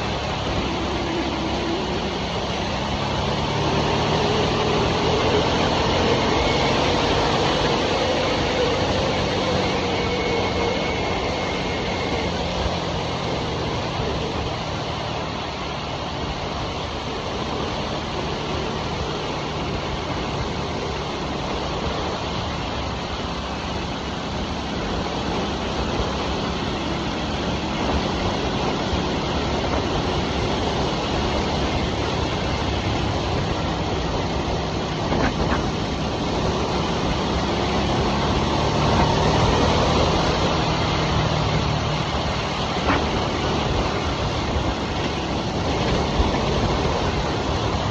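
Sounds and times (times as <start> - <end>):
motorcycle engine cruising: 0.0 - 47.9
road noise: 0.0 - 47.9
rushing wind: 0.0 - 47.9.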